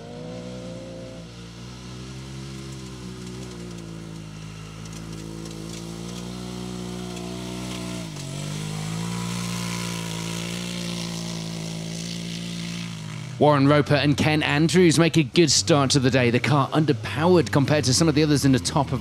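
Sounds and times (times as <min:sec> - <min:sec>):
racing vehicle engine revving: 0:00.0 - 0:19.0.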